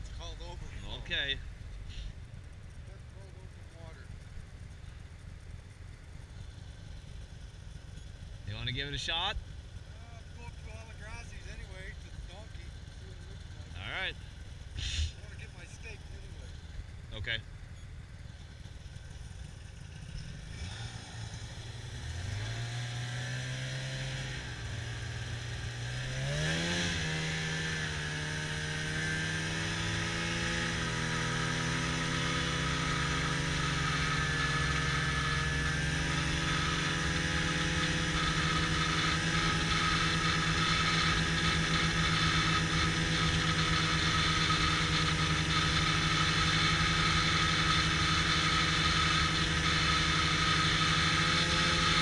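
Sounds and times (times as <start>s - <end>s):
snowmobile engine: 8.4s - 17.4s, 18.3s - 52.0s.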